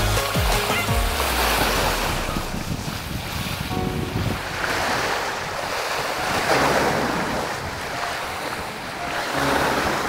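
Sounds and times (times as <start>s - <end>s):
sea water washing: 0.2s - 10.0s
wind buffeting microphone: 1.5s - 10.0s.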